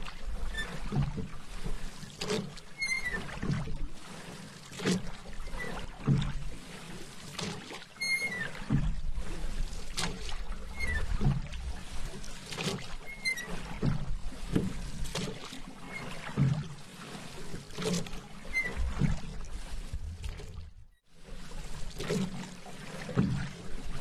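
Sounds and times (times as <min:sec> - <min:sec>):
paddle strokes splashing: 0:00.0 - 0:24.0
water moving along hull: 0:00.0 - 0:24.0.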